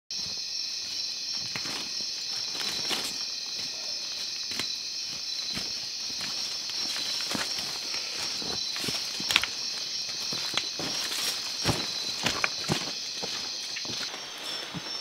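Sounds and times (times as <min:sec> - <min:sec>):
night insects chorus: 0:00.1 - 0:15.0
footsteps on forest floor: 0:00.2 - 0:15.0.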